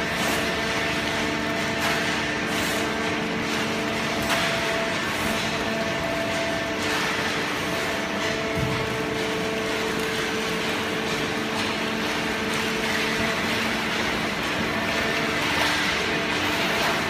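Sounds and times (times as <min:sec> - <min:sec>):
baler machine hum: 0:00.0 - 0:17.0.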